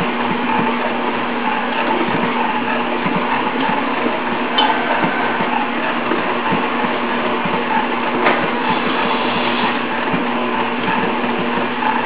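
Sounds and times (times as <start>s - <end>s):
stand mixer motor hum: 0.0s - 12.0s.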